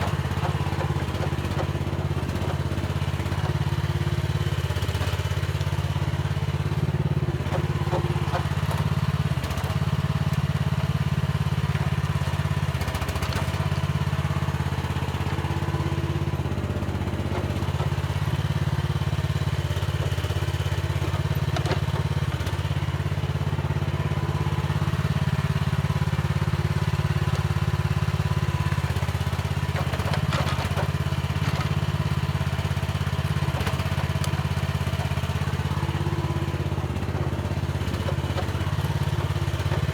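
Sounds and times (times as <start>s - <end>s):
excavator clanking: 0.0s - 39.9s
excavator engine running: 0.0s - 39.9s.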